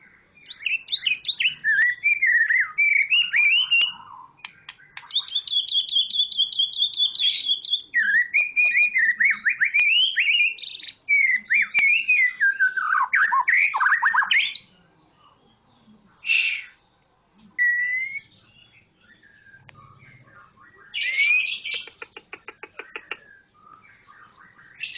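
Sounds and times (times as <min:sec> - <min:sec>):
bird singing trills and warbles: 0:00.0 - 0:16.9, 0:17.5 - 0:24.9.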